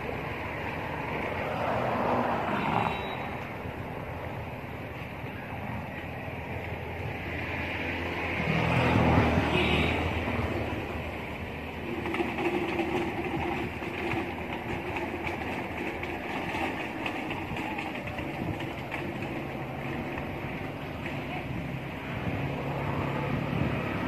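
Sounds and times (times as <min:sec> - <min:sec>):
motor vehicle passing: 0:00.0 - 0:04.6, 0:07.0 - 0:24.0.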